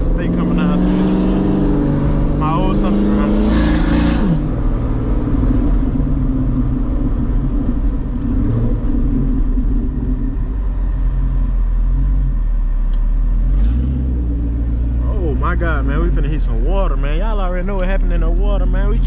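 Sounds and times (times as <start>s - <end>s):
deep unmuffled car exhaust: 0.0s - 19.0s.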